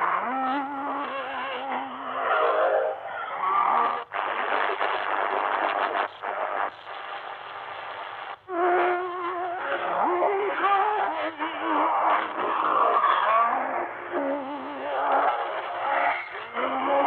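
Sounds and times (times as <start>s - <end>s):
muffled singing over radio: 0.0s - 17.0s
radio static rushing noise: 0.0s - 17.0s.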